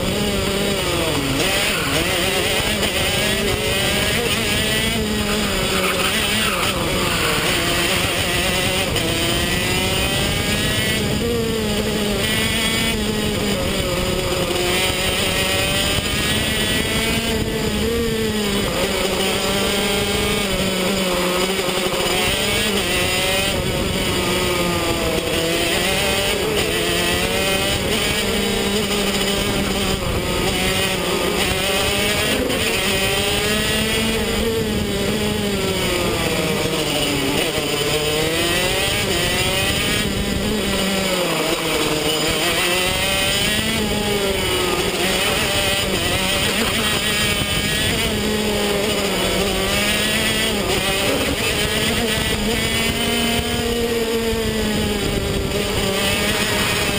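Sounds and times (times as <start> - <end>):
kart engine revving: 0.0 - 56.9.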